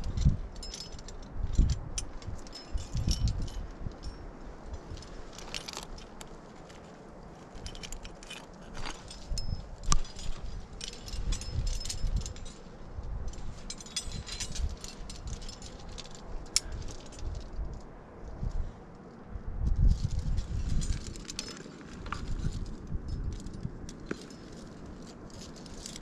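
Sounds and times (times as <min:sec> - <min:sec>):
metal climbing gear clinking: 0:00.0 - 0:26.0.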